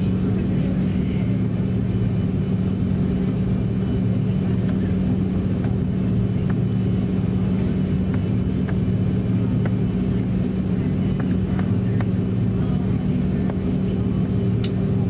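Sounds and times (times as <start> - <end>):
aircraft cabin hum: 0.0 - 15.0.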